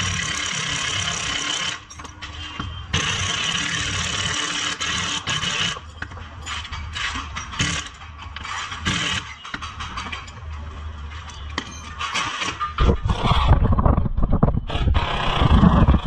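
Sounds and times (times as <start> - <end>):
pneumatic impact wrench hammering: 0.0 - 10.2, 12.0 - 13.5, 14.7 - 16.0.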